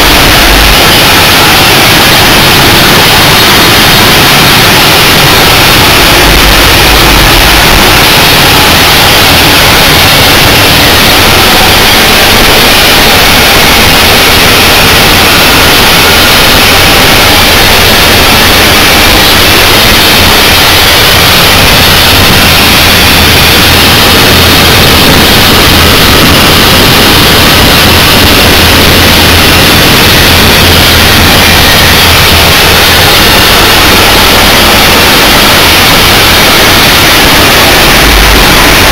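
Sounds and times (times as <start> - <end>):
steam locomotive running: 0.0 - 38.9.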